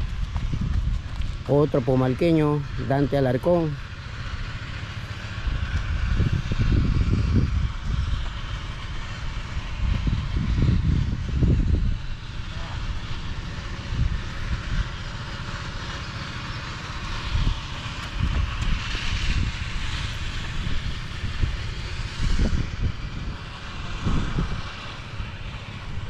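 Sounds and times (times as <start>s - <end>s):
wind gusting across microphone: 0.0s - 26.0s.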